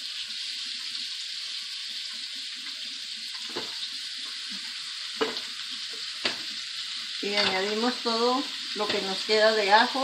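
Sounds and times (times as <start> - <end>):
meat sizzling in oil: 0.0 - 10.0.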